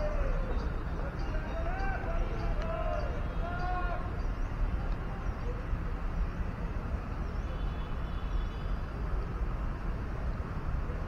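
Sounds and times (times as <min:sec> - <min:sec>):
low irregular rumble: 0:00.0 - 0:11.0.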